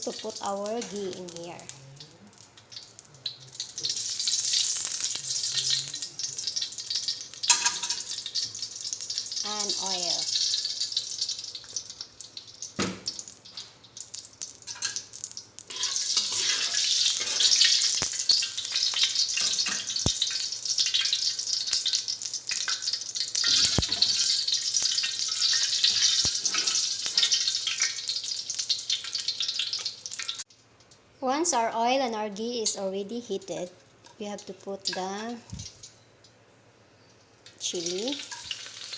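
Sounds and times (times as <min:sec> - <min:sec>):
oil sizzling in a pan: 0:00.0 - 0:30.6, 0:34.1 - 0:36.1, 0:37.2 - 0:38.9.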